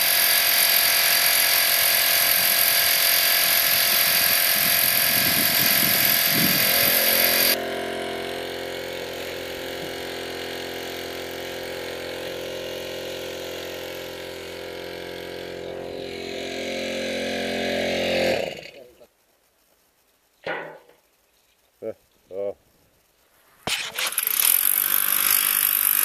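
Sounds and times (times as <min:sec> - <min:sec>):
loud steady hiss: 0:00.0 - 0:16.7, 0:17.7 - 0:26.0
small engine running: 0:00.0 - 0:18.9, 0:23.7 - 0:26.0.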